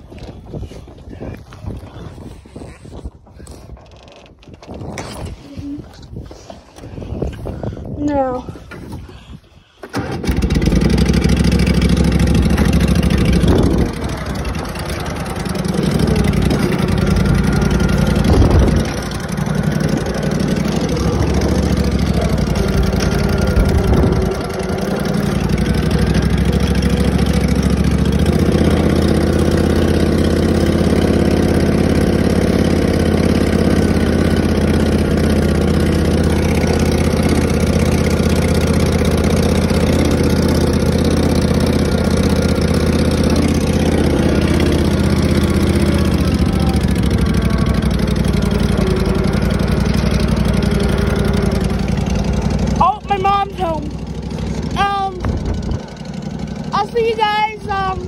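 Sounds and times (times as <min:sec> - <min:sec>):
tractor engine running: 0:09.8 - 0:58.0.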